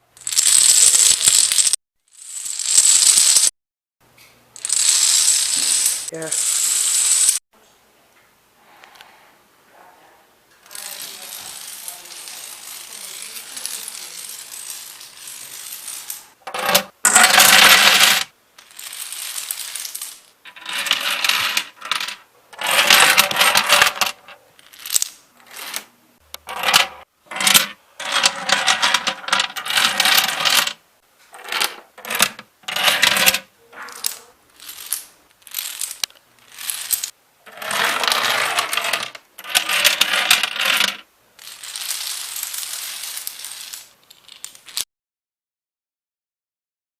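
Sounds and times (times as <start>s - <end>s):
dominoes toppling clatter: 0.2s - 3.5s, 4.6s - 7.4s, 10.6s - 30.8s, 31.4s - 44.9s.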